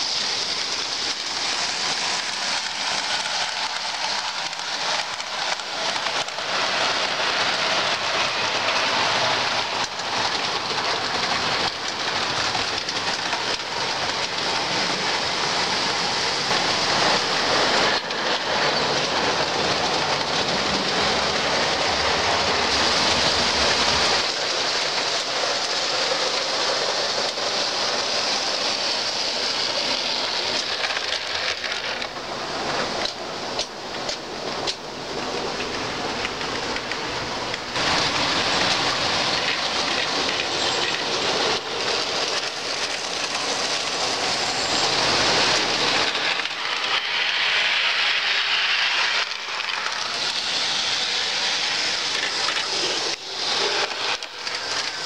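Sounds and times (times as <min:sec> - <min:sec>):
model train wheels rolling on rail: 0:00.0 - 0:55.0.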